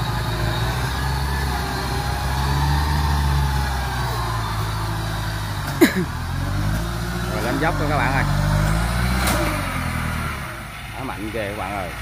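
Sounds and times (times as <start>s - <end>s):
tracked carrier engine running: 0.0s - 12.0s.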